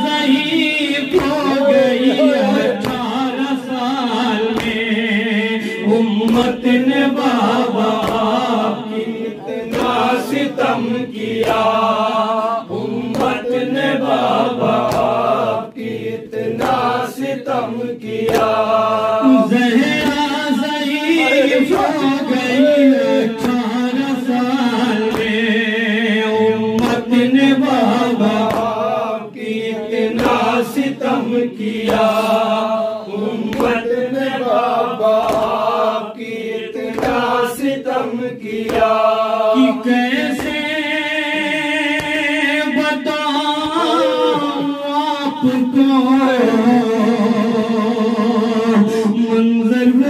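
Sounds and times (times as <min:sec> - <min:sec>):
man singing into a microphone: 0:00.0 - 0:50.0
men chanting a lament: 0:00.0 - 0:50.0.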